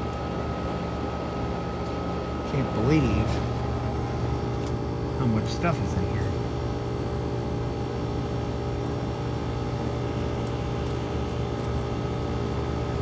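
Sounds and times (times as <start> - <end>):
window air conditioner humming: 0.0 - 13.0.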